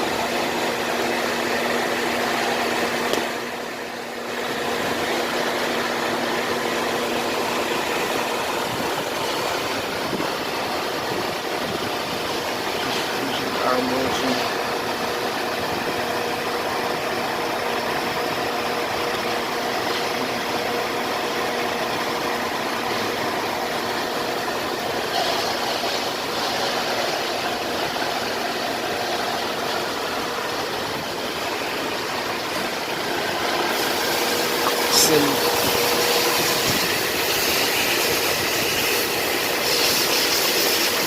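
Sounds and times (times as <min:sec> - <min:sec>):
car engine running: 0:00.0 - 0:41.0.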